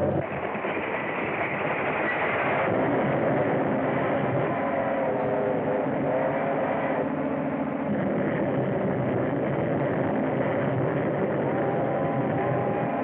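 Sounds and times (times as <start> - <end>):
moving train rumble and clatter: 0.0 - 13.0.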